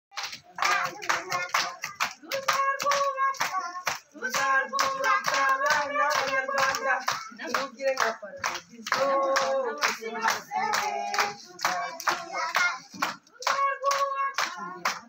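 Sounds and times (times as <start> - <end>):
children and women singing: 0.1 - 15.0
hands clapping in rhythm: 0.1 - 15.0.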